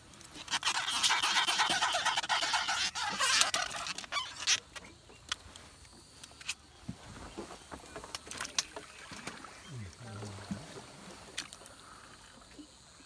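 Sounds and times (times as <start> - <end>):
wet rustling and scraping in boat: 0.0 - 13.0.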